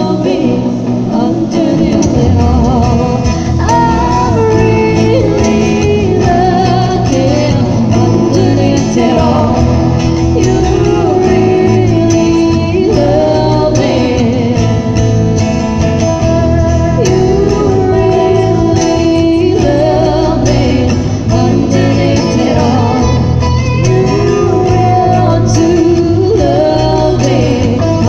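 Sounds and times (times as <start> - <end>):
amplified electric guitars: 0.0 - 28.0
woman singing into microphone: 0.0 - 28.0.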